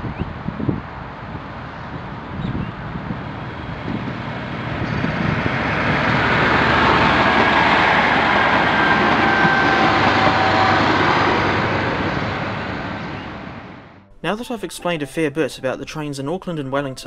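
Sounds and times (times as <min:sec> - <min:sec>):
diesel train passing: 0:00.0 - 0:14.4.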